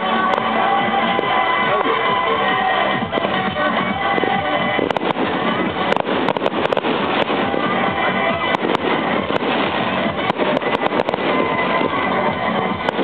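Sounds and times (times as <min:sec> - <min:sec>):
fireworks cracking and popping: 0:00.0 - 0:13.0
music playing: 0:00.0 - 0:13.0.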